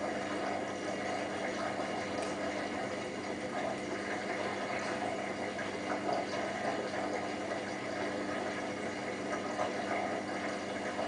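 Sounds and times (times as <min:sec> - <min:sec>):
washing machine drain pump humming: 0:00.0 - 0:11.0.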